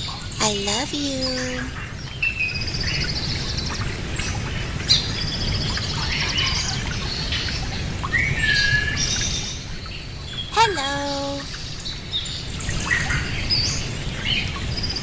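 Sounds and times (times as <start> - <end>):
low background noise: 0.0 - 15.0
small birds chirping and trilling: 0.0 - 15.0.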